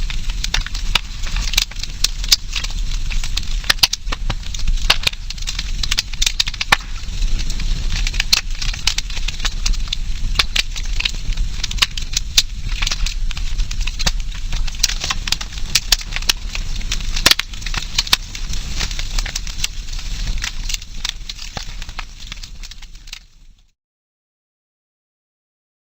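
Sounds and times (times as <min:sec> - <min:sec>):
campfire crackling and popping: 0:00.0 - 0:23.7
low rumble of burning: 0:00.0 - 0:23.8.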